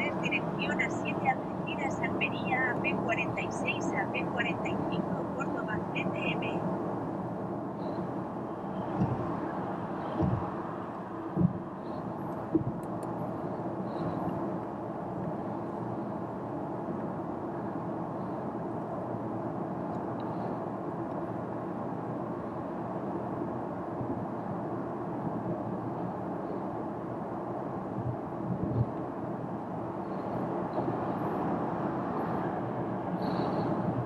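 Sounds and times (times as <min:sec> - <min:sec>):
tyre and wind noise in car cabin: 0:06.6 - 0:34.0.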